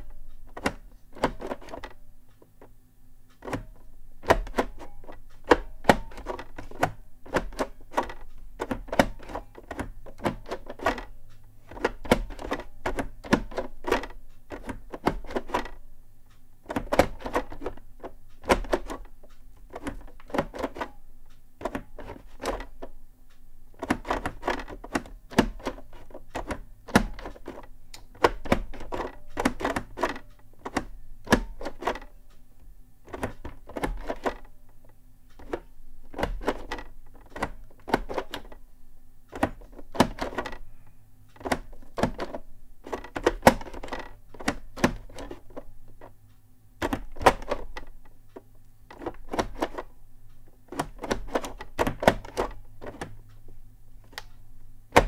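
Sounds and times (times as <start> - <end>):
plastic keyboard clicks and clacks: 0.0 - 2.6, 3.3 - 15.8, 16.7 - 19.1, 19.7 - 21.0, 21.6 - 22.9, 23.8 - 32.2, 33.1 - 34.5, 35.4 - 38.6, 39.3 - 40.7, 41.4 - 46.1, 46.8 - 47.9, 48.9 - 49.9, 50.6 - 53.3, 54.1 - 55.0
faint low hum: 0.0 - 55.0.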